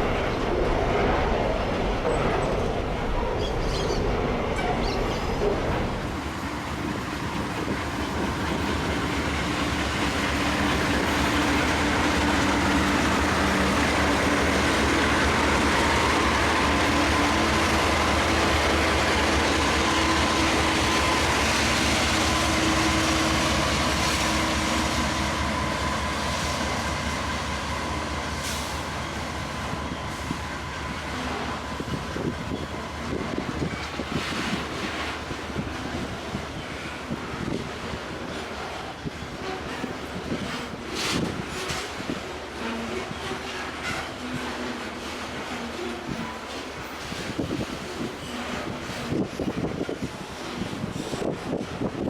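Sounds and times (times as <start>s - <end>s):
freight train rumbling past: 0.0s - 52.0s.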